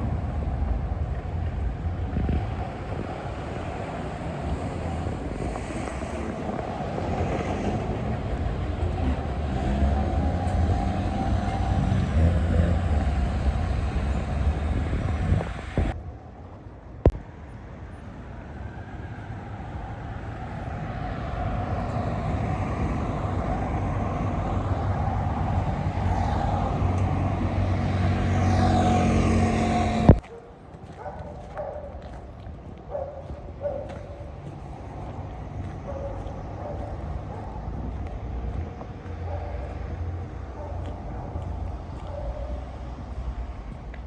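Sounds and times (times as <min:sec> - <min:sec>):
vehicles driving past: 0:00.0 - 0:44.0.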